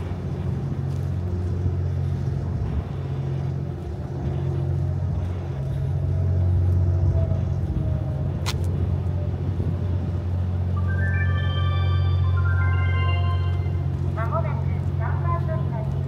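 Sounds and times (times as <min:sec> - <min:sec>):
train humming and rumbling: 0:00.0 - 0:16.0.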